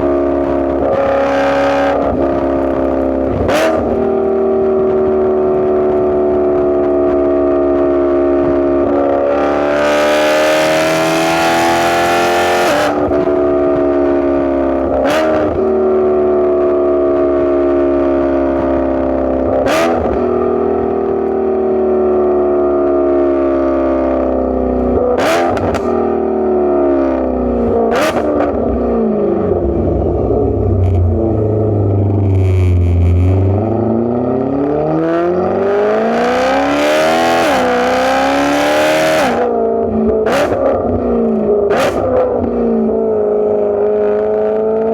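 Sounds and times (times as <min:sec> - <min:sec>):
car engine exhaust while driving: 0:00.0 - 0:44.9.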